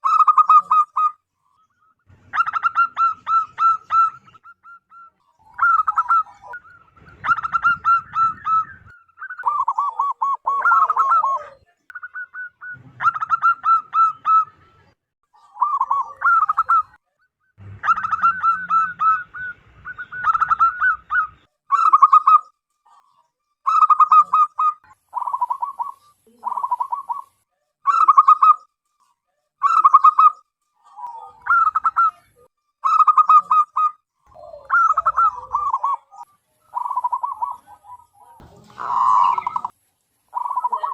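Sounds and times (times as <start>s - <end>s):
dove cooing: 0.0s - 1.2s, 2.3s - 14.6s, 15.4s - 17.0s, 17.6s - 22.4s, 23.7s - 28.6s, 29.6s - 40.9s.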